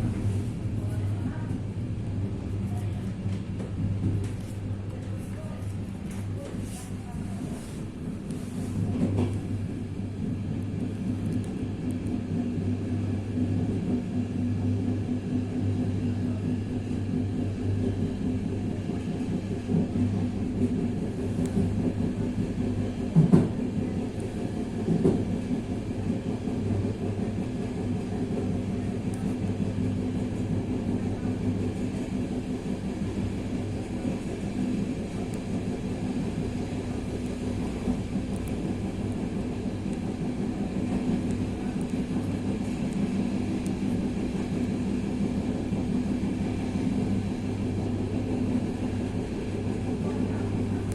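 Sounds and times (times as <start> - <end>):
railcar engine drone: 0.0 - 50.9.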